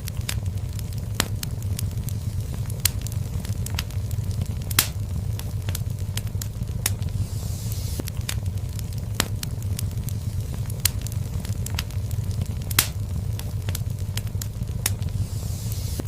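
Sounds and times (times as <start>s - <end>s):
fire pops and snaps: 0.0s - 16.0s
low rumble of flame: 0.0s - 16.0s.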